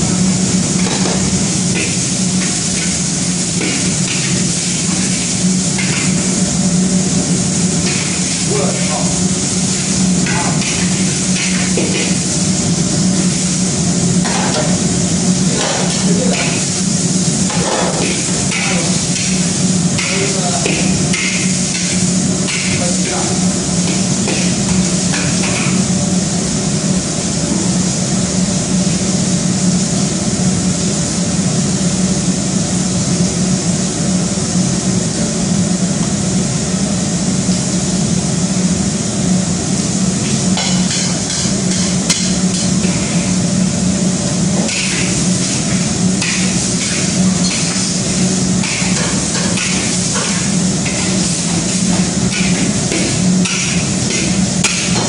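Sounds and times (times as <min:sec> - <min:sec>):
loud steady kitchen roar: 0:00.0 - 0:55.0.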